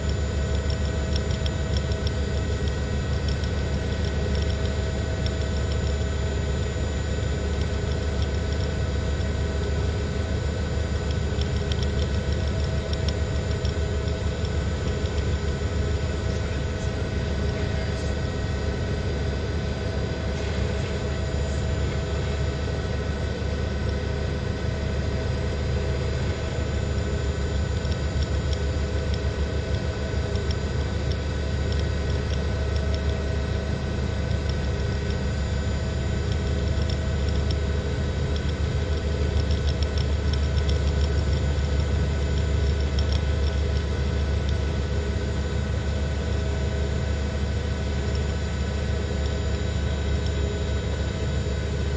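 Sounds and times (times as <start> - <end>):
helicopter turbine and rotor: 0.0 - 51.9.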